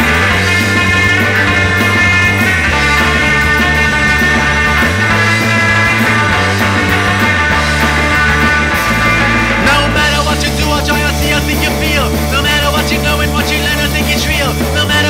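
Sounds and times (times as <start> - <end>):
loud instrumental rock music: 0.0 - 15.0.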